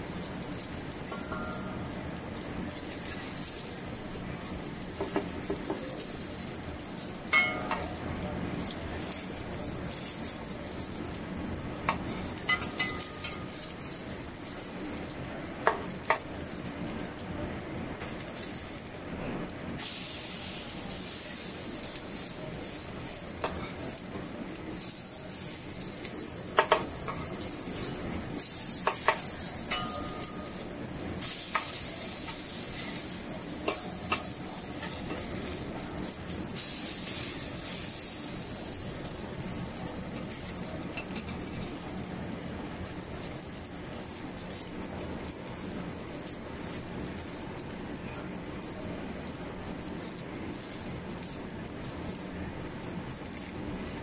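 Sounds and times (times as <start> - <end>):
fritters sizzling in oil: 0.0 - 54.0.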